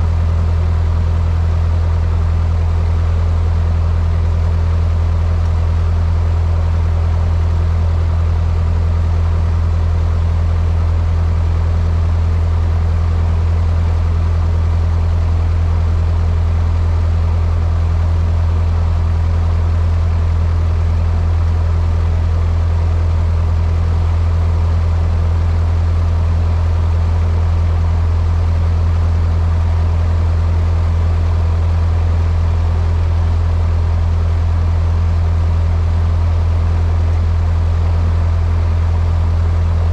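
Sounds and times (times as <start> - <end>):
airplane engine droning in cockpit: 0.0 - 39.9.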